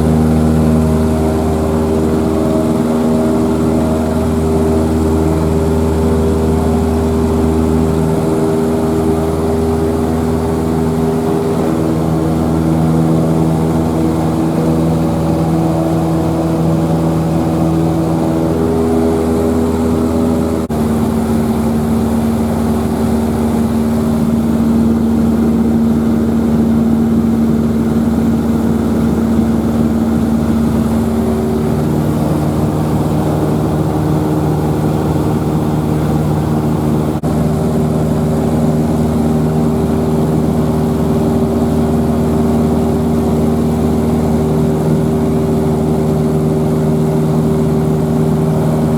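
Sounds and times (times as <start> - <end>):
loud engine drone: 0.0 - 48.9.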